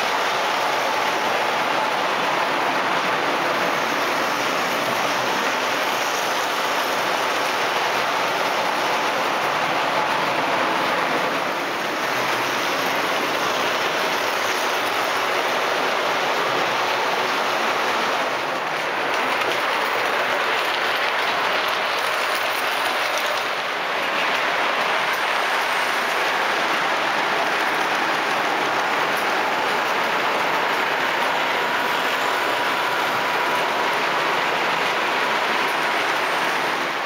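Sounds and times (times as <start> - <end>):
model train wheels rumbling on rails: 0.0 - 37.0.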